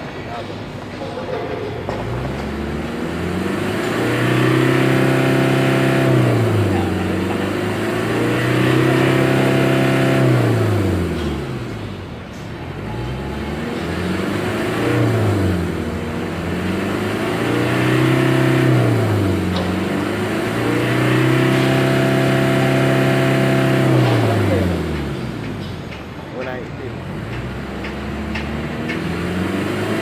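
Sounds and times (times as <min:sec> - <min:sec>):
diesel engine revving: 0:00.0 - 0:30.0.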